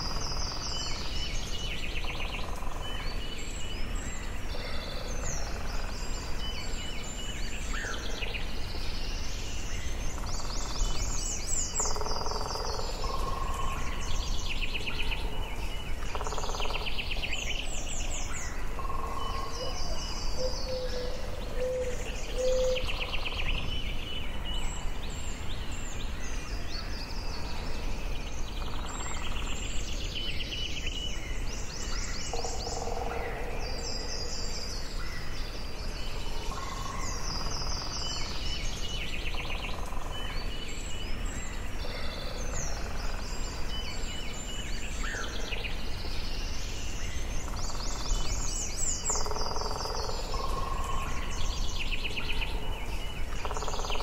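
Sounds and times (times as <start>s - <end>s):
birds singing and chirping: 0.0s - 54.0s.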